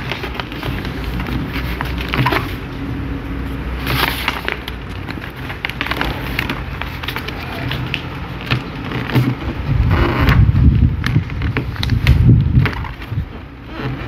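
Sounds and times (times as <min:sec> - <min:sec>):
paper crinkling as folded: 0:00.0 - 0:14.0.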